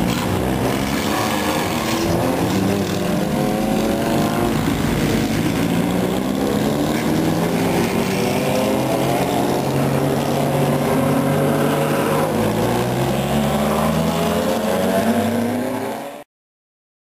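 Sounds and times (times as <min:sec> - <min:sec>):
race car engine revving: 0:00.0 - 0:16.2.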